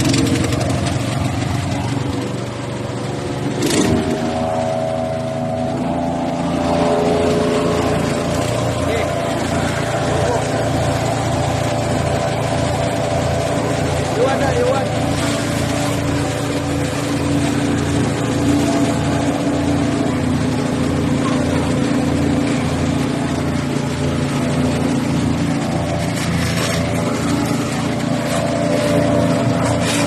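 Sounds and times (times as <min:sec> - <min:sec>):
wood chipper engine running: 0:00.0 - 0:30.0.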